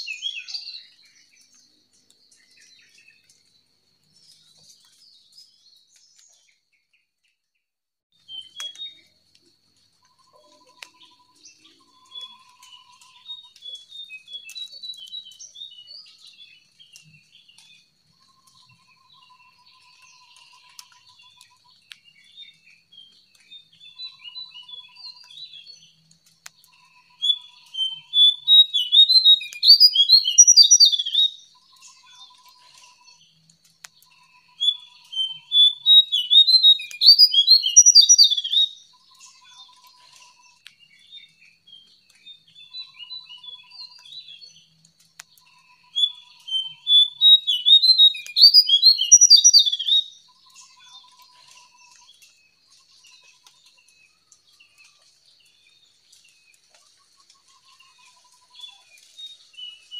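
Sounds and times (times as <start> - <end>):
soft bird twittering: 0.0 - 6.6, 10.0 - 59.9
bird singing runs of quick notes: 10.0 - 41.7, 42.3 - 59.9.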